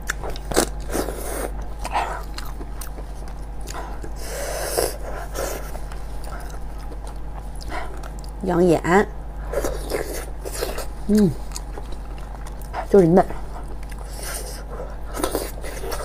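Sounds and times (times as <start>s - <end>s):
lip smacks and chewing: 0.0s - 4.2s, 5.6s - 8.4s, 9.8s - 16.0s.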